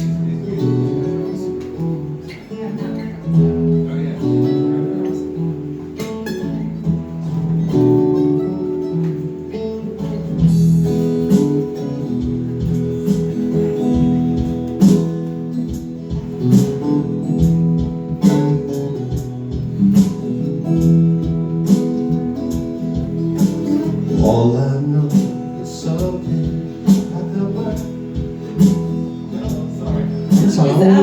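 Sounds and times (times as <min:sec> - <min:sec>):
strummed acoustic guitar chords: 0:00.0 - 0:31.0.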